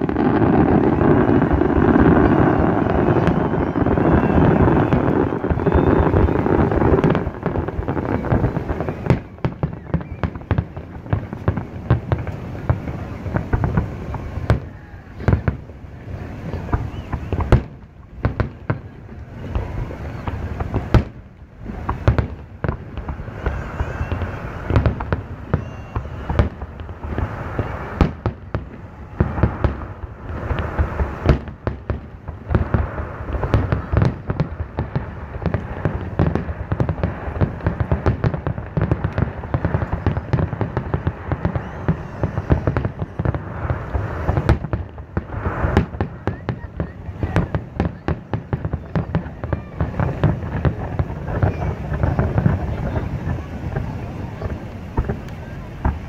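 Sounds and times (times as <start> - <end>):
fireworks bangs and crackle: 0.0 - 56.0
low rumble of explosions: 0.0 - 56.0.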